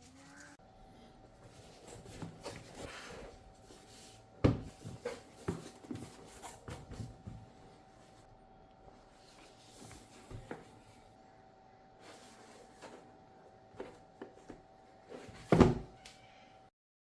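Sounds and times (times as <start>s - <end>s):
faint steady hum: 0.0s - 16.7s.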